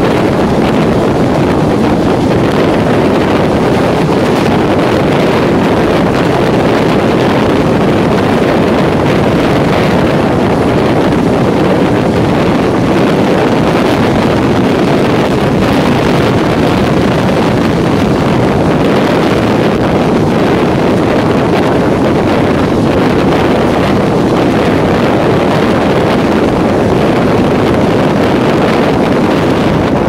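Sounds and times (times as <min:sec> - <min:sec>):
train rumbling on board: 0:00.0 - 0:30.0
wind on microphone: 0:00.0 - 0:30.0.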